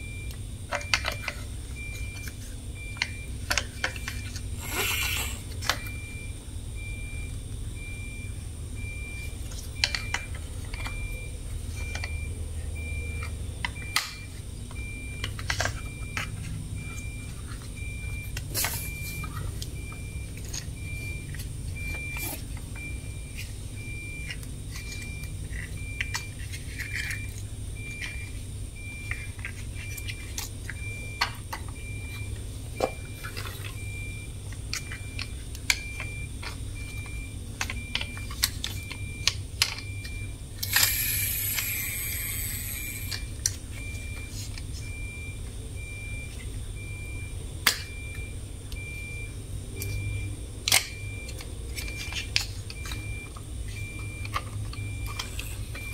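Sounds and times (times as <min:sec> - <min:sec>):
low hum: 0:00.0 - 0:55.9.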